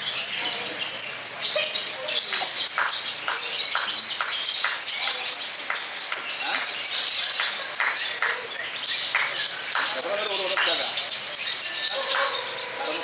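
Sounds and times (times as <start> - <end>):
birds shrill chattering: 0.0 - 13.0.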